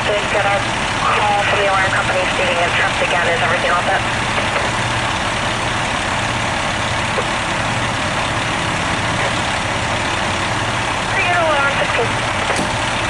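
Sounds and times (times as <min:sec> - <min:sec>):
fire engine idling: 0:00.0 - 0:13.0.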